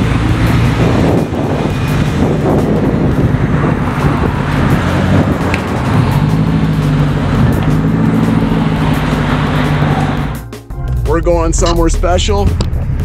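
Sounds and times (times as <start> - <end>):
car exhaust drone: 0.0 - 10.4.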